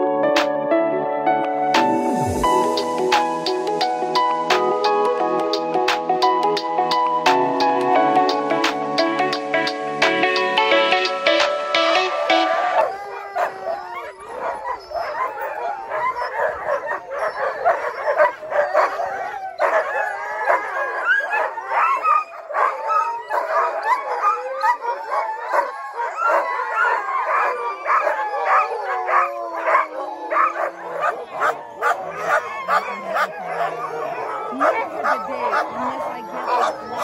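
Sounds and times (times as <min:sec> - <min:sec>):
sled dogs howling and yipping: 0:02.1 - 0:37.0.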